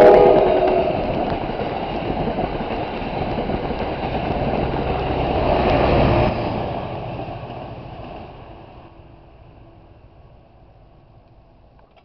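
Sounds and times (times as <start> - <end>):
passenger train passing on rails: 0.0 - 12.0.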